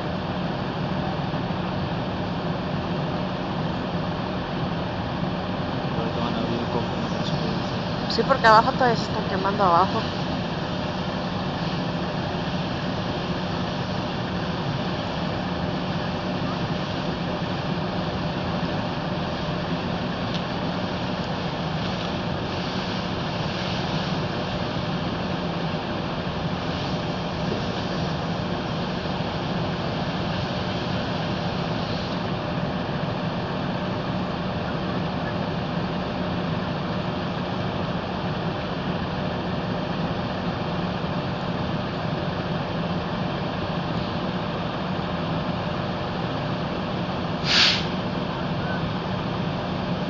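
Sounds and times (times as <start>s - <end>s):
steady mechanical rumble with hiss: 0.0s - 50.0s.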